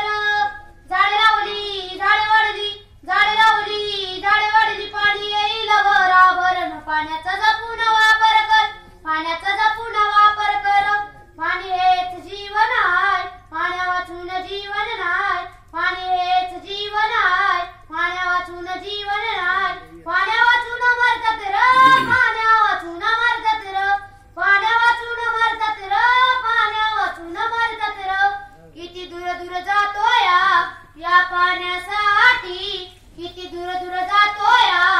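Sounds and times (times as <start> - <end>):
boy singing into a microphone: 0.0 - 34.9.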